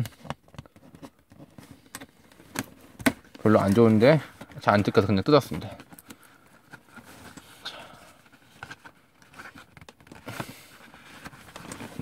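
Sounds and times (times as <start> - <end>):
cardboard rustling: 0.0 - 12.0.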